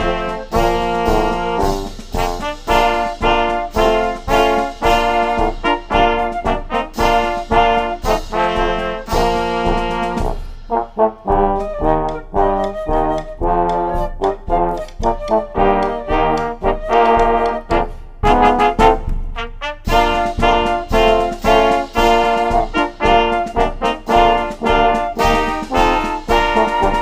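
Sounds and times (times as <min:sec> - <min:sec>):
bass drum: 0:00.0 - 0:27.0
snare drum: 0:00.0 - 0:27.0
wind ensemble playing march: 0:00.0 - 0:27.0.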